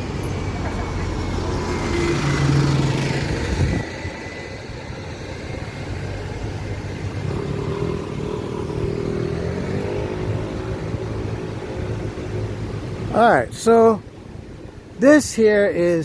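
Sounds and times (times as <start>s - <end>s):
engine hum: 0.0s - 15.0s
vehicle engine running nearby: 0.0s - 15.0s
low traffic rumble: 0.0s - 16.0s.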